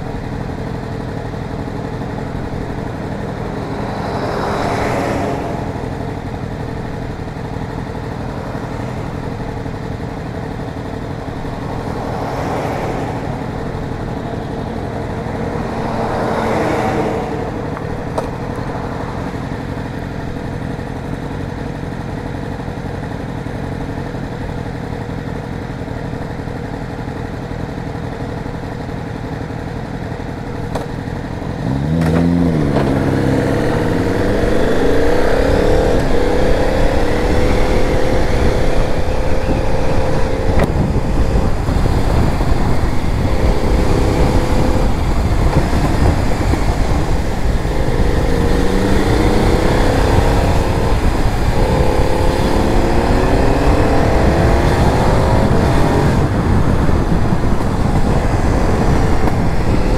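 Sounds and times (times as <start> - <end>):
motorcycle engine idling: 0.0 - 4.4, 5.4 - 49.5
motorcycle revving and accelerating: 0.0 - 59.9.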